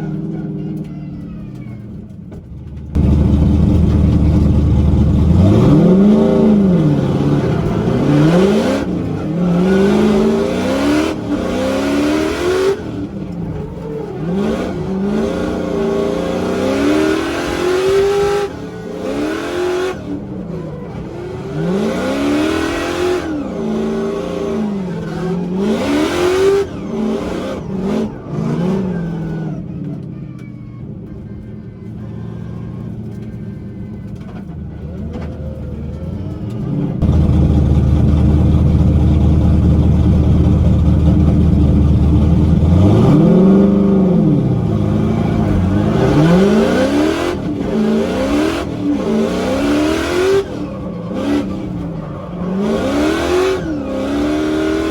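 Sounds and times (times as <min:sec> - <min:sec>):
car engine revving hard: 0:03.0 - 0:29.7, 0:36.0 - 0:54.9.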